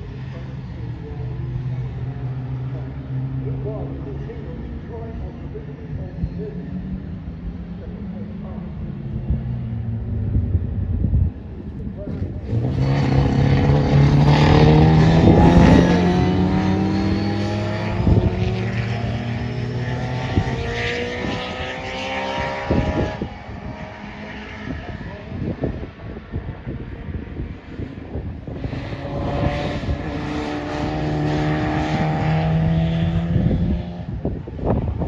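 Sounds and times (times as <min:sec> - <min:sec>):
racing car engines accelerating: 0:00.0 - 0:35.0.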